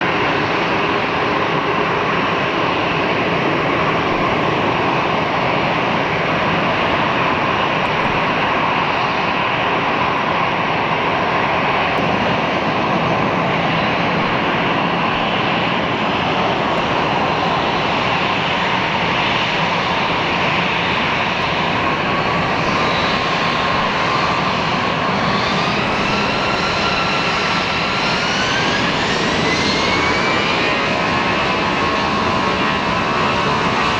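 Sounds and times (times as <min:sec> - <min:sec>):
jet engines spooling up: 0:00.0 - 0:33.9.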